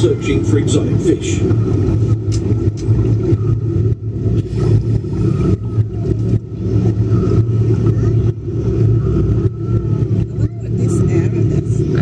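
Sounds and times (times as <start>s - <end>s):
low machinery rumble: 0.0s - 12.0s.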